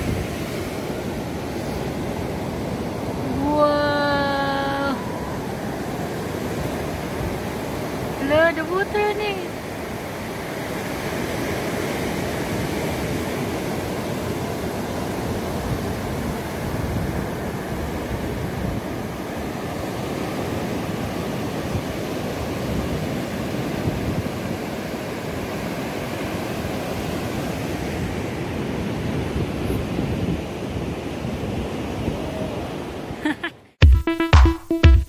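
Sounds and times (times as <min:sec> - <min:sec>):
wind on microphone: 0:00.0 - 0:09.4, 0:10.9 - 0:25.1, 0:26.6 - 0:33.2
ocean surf breaking: 0:00.0 - 0:33.5.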